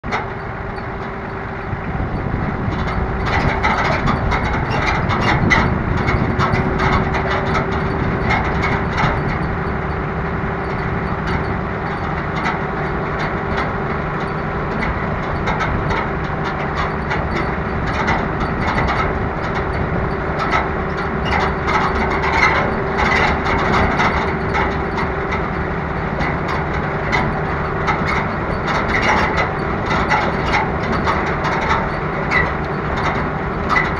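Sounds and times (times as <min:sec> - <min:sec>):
frame and rack rattling: 0:00.0 - 0:33.9
off-road vehicle engine running: 0:00.0 - 0:33.9.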